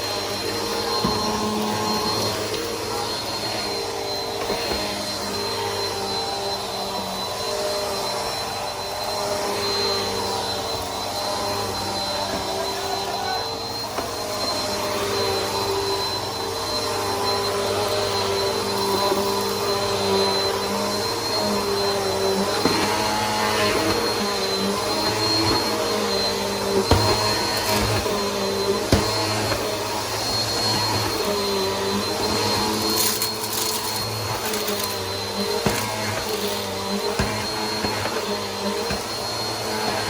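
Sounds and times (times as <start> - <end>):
upright vacuum running: 0.0 - 40.0.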